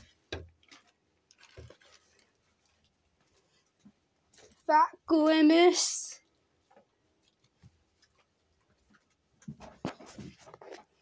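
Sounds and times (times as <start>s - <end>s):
rustles and light knocks: 0.0s - 4.7s, 6.6s - 11.0s.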